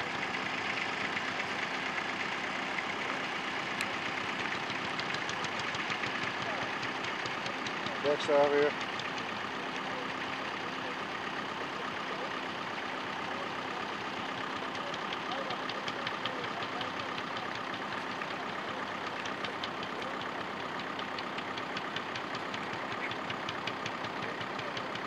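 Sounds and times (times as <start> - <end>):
tractor diesel engine running: 0.0 - 25.0
light regular clatter: 0.6 - 10.6, 13.0 - 25.0.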